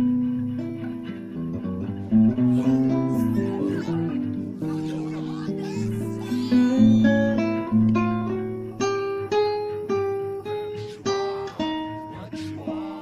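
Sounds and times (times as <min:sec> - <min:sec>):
acoustic guitar melody: 0:00.0 - 0:13.0.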